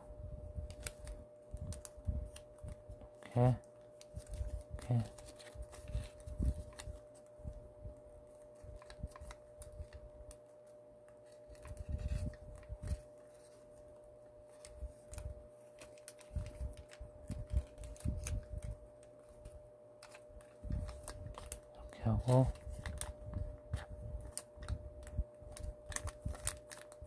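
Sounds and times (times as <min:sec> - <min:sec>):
paper being folded and creased: 0:00.7 - 0:07.4, 0:08.4 - 0:27.0.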